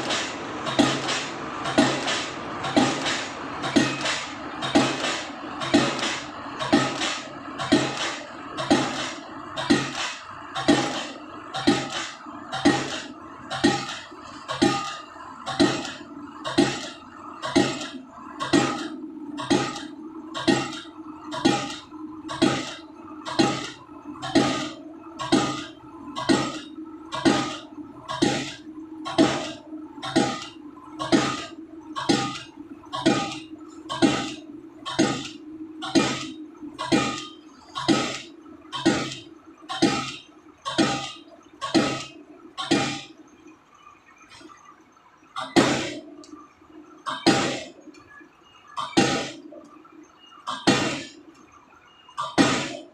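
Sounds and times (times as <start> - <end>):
pile-driving hammer striking concrete: 0.0 - 43.2, 45.4 - 46.1, 47.1 - 47.8, 48.8 - 49.4, 50.5 - 51.2, 52.2 - 52.9
steady low hum: 0.0 - 52.9.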